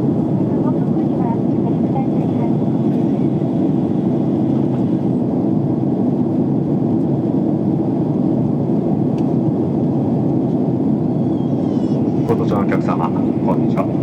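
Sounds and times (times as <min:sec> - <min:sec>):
jet airliner cabin noise: 0:00.0 - 0:14.0.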